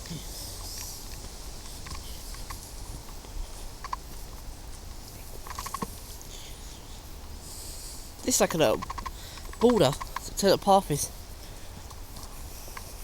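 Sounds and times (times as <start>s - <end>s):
faint footsteps on path: 0.0s - 13.0s.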